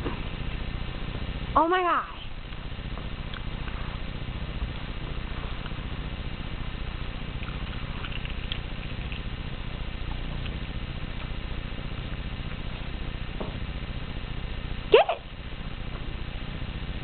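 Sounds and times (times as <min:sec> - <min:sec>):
low rumble with fast flutter: 0:00.0 - 0:17.0.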